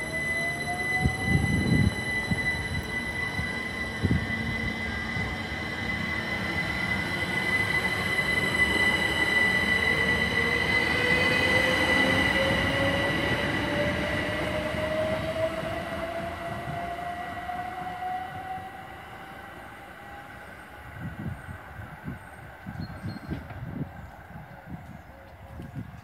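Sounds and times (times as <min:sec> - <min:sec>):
wheels rumbling on rail: 0:00.0 - 0:19.0, 0:19.7 - 0:26.0
electric train whine: 0:00.0 - 0:25.9.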